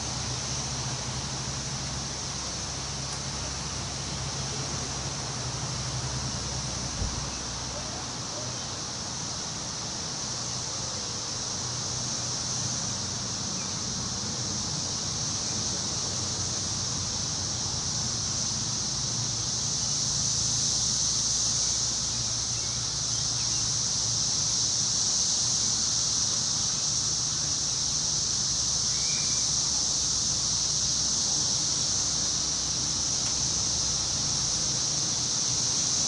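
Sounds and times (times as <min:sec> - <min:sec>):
steady high-pitched hiss: 0:00.0 - 0:36.0
wind rustling tree leaves: 0:00.0 - 0:36.0.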